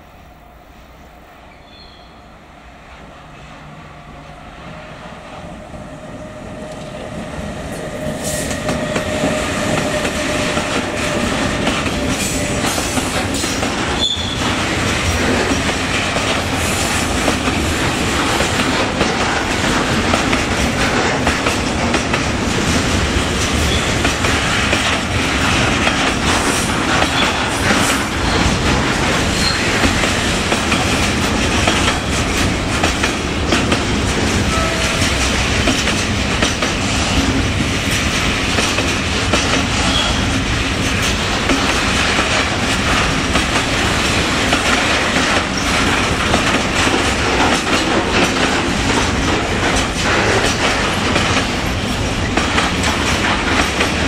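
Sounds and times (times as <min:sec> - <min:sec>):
freight train passing: 0:00.0 - 0:54.0
wheels clattering over rails: 0:08.6 - 0:54.0.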